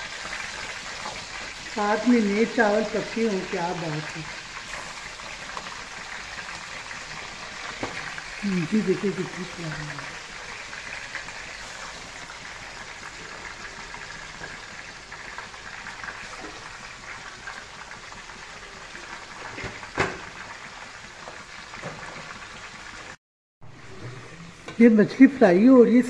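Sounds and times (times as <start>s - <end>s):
fish frying in oil: 0.0s - 23.2s.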